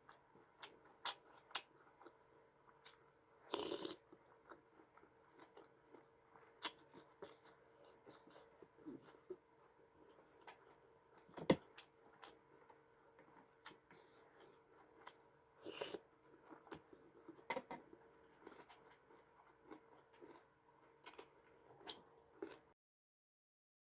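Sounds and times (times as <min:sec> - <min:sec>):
chewing and crunching: 0:00.0 - 0:22.7
faint steady hum: 0:00.0 - 0:22.7.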